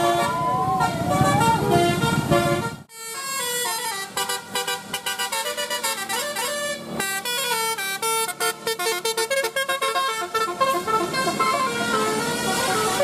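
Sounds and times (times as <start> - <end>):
bus engine and tyre noise: 0.0 - 13.0
multi-tone bus horn tune: 0.0 - 13.0.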